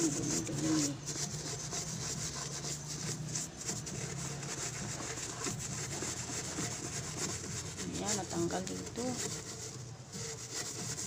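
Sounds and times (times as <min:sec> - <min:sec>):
scouring pad scrubbing pan: 0:00.0 - 0:11.0.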